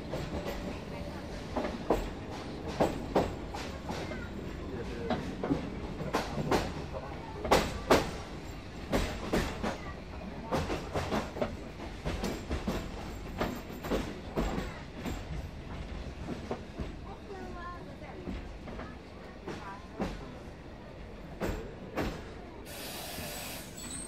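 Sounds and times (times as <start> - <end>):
train carriage rumble: 0.0 - 24.0
muted passenger chat: 0.2 - 22.7.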